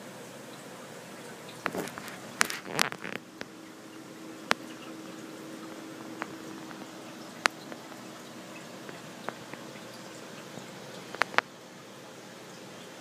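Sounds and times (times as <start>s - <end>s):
aquarium pump hum: 0.0s - 13.0s
bubbling water: 0.0s - 13.0s
sharp clicks and drips: 0.2s - 13.0s.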